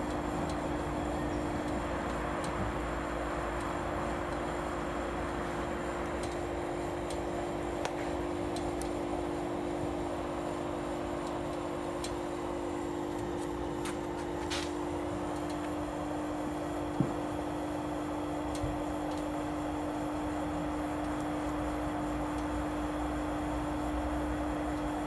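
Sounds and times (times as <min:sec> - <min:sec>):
heater fan hum: 0:00.0 - 0:25.0.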